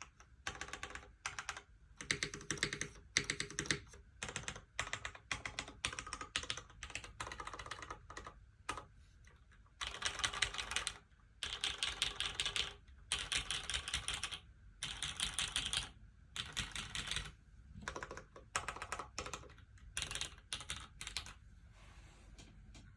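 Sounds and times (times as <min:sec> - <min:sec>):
mechanical keyboard typing: 0:00.0 - 0:08.9, 0:09.8 - 0:21.4.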